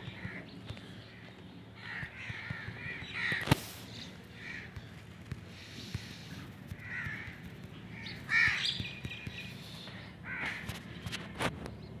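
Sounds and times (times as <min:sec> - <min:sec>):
bird calling: 0:00.0 - 0:11.5.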